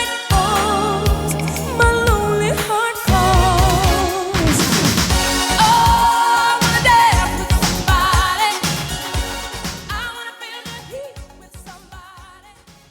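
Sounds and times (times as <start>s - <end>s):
woman singing: 0.0s - 9.3s, 9.9s - 12.9s
dance-pop drum beat: 0.0s - 12.4s.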